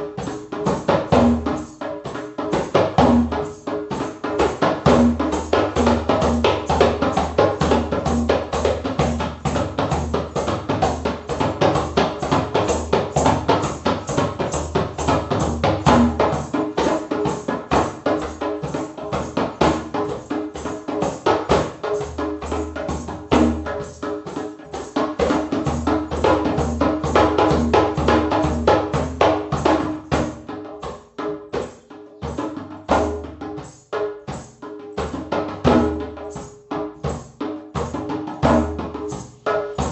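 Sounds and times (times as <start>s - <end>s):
fast percussion beat: 0.0s - 39.9s.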